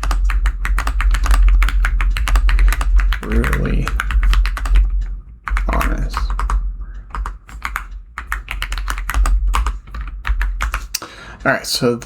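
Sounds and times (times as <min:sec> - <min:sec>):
typing on computer keyboard: 0:00.0 - 0:11.0.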